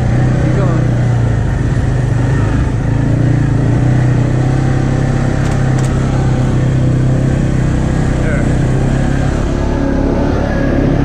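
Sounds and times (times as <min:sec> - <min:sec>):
atv engine running steadily: 0:00.0 - 0:11.0.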